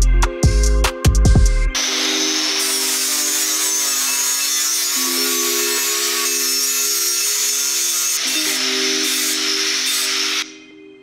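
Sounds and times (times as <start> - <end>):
angle grinder grinding steel: 1.8 - 10.6.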